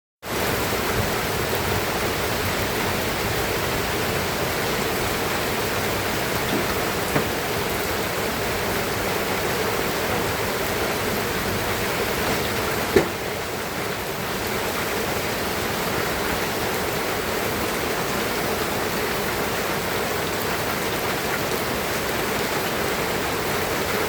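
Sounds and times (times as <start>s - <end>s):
steady rain hiss: 0.3s - 24.0s.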